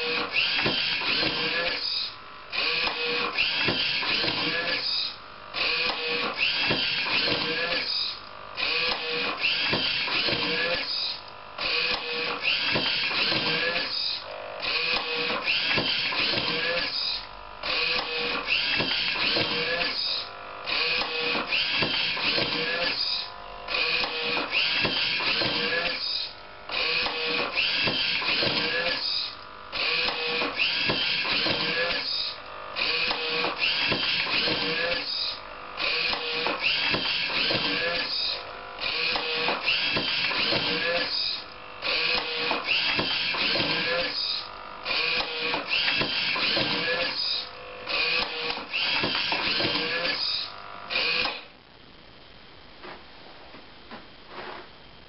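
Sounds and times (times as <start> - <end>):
scanner motors whirring: 0.0 - 51.5.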